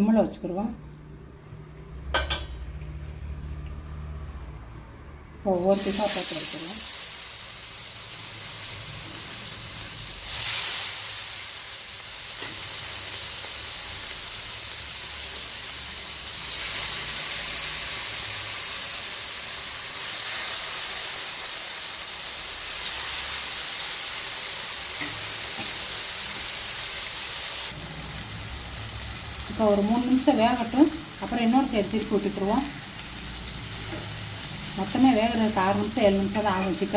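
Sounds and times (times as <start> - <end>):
chicken sizzling in oil: 5.6 - 36.9.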